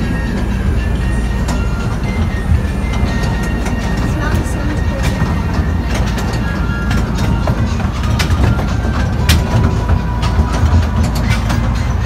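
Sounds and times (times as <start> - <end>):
ride carriage rumbling: 0.0 - 12.0
wheels clicking over rail joints: 0.0 - 12.0.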